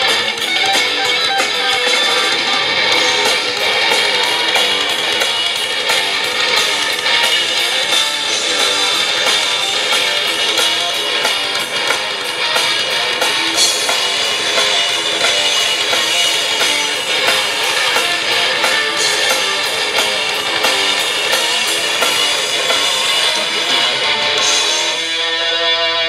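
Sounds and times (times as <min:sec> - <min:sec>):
drum kit beat: 0:00.0 - 0:25.7
bass guitar: 0:00.0 - 0:26.0
electric guitars: 0:00.0 - 0:26.0.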